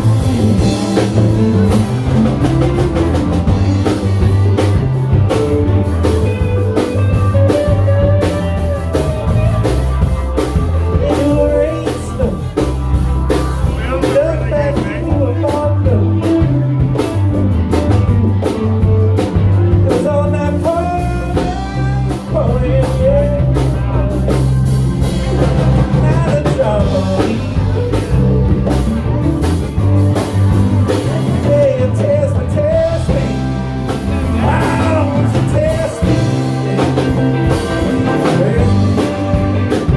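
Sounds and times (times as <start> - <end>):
electric guitar lead: 0.0 - 39.9
live rock band playing: 0.0 - 39.9.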